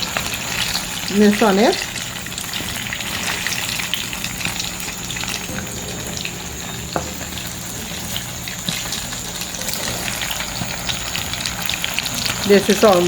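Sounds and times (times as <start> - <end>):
dumplings sizzling in oil: 0.0 - 13.0.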